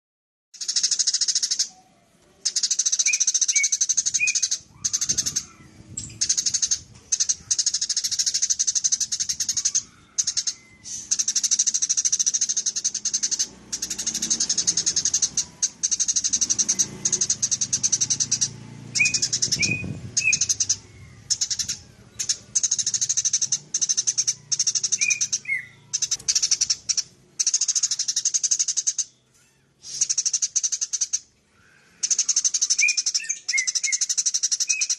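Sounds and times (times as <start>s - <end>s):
sparrow chattering: 0.6s - 29.2s, 29.8s - 34.9s.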